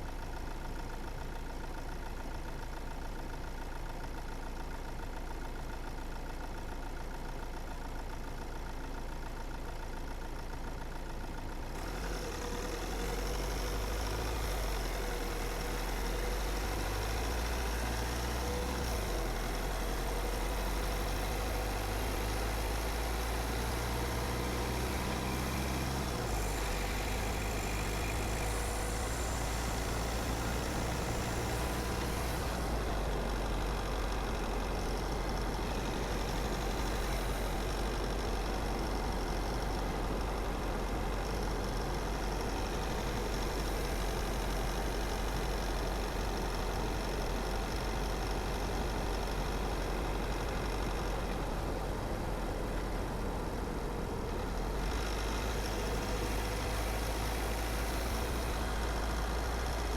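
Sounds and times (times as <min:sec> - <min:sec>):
car engine running: 0:00.0 - 0:59.9
tyre road noise: 0:11.6 - 0:59.9.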